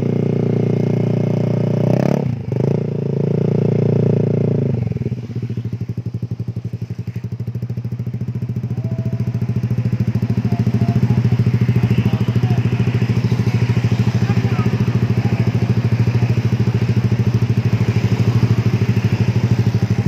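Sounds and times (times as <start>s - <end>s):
scooter engine revving and idling: 0.0s - 20.0s.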